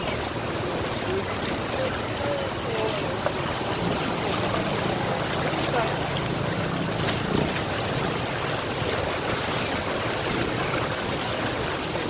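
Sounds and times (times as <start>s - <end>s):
floodwater rushing over road: 0.0s - 12.0s.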